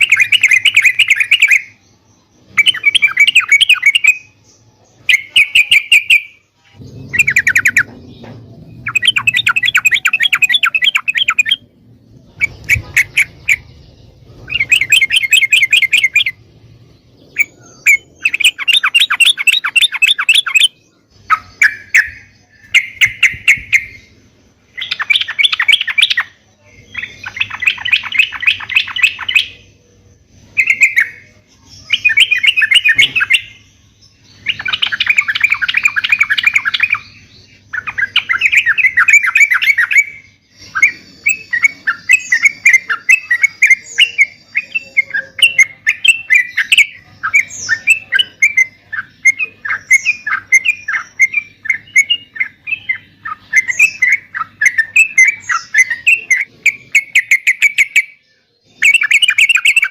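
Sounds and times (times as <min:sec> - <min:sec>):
bulbul singing: 0:00.0 - 0:59.9.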